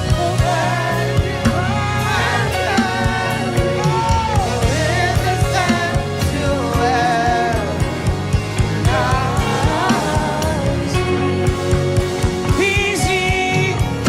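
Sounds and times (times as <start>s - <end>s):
person singing: 0.0s - 8.2s, 8.8s - 11.8s, 12.5s - 14.0s
bass: 0.0s - 14.0s
keyboard: 0.0s - 14.0s
steady drum beat: 0.0s - 14.0s.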